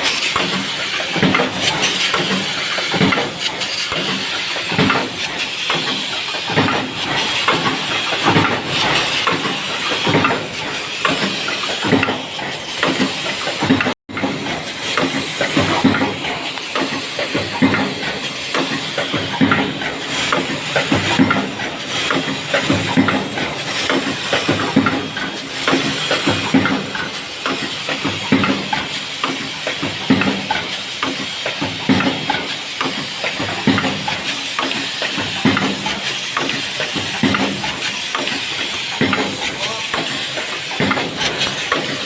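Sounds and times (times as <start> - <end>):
machine hiss: 0.0 - 42.0
mechanical knocks and clacks: 0.0 - 42.0.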